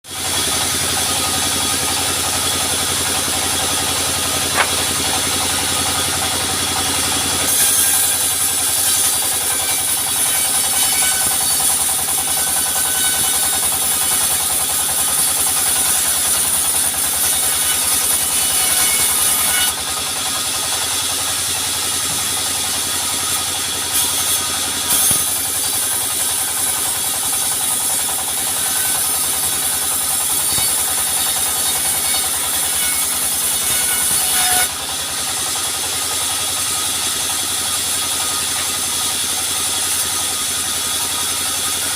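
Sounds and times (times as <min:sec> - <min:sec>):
sawmill machinery engine drone: 0:00.0 - 0:41.9.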